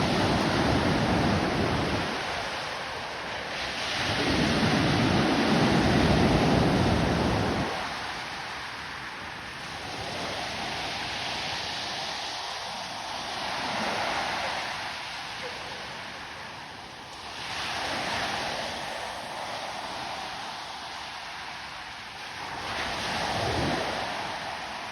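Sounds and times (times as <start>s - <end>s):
waves breaking on shore: 0.0s - 24.9s.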